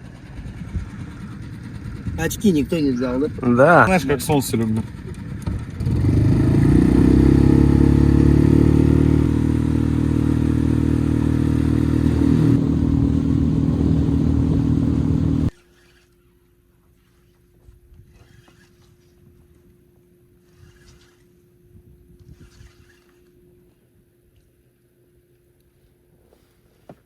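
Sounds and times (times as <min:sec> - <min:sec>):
outboard motor running: 0:00.0 - 0:23.9.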